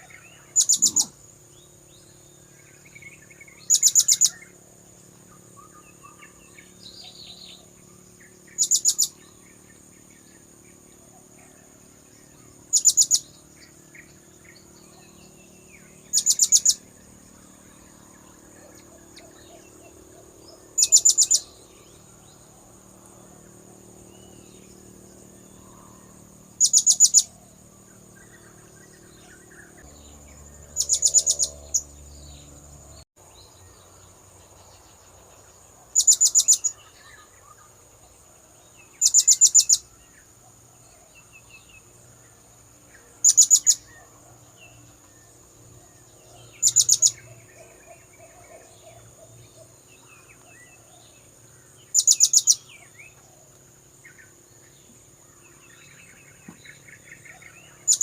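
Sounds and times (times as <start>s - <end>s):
faint background chirping: 0.0s - 58.0s.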